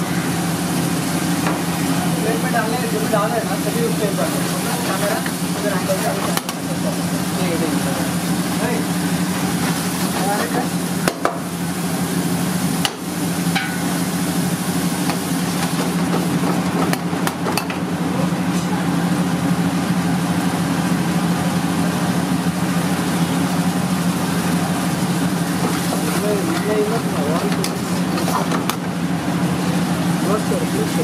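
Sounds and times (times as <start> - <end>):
curry simmering and sizzling: 0.0 - 31.0
low kitchen hum: 0.0 - 31.0.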